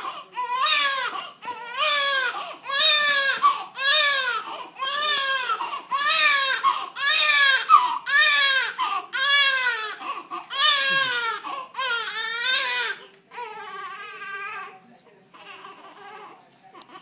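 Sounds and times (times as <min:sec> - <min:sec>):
newborn baby crying: 0:00.0 - 0:17.0.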